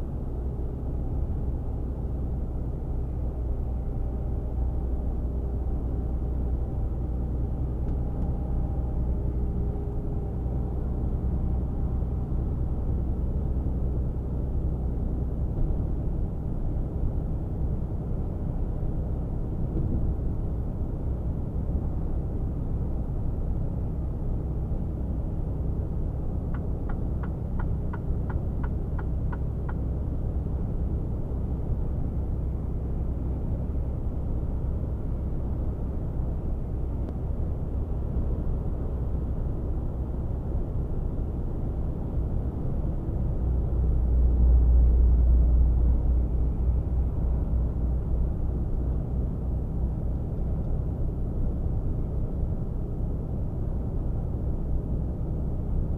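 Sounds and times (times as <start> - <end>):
truck engine drone in cab: 0.0 - 55.9.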